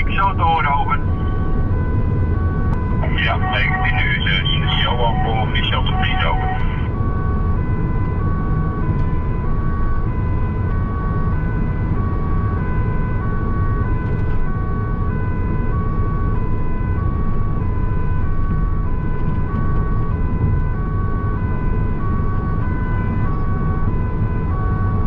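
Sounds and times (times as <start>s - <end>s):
road rumble: 0.0s - 25.0s
two-tone emergency siren: 0.0s - 25.0s.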